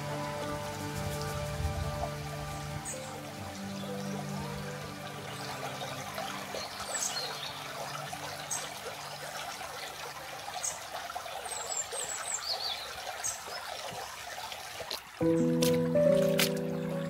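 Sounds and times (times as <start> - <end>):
stream trickling over stones: 0.0 - 17.0.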